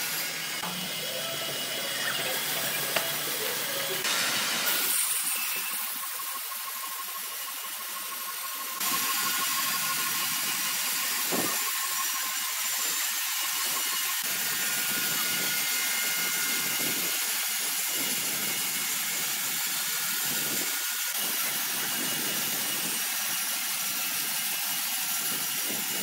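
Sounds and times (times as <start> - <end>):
saw blade cutting timber: 0.0 - 26.0
sawmill machine running: 0.0 - 26.0.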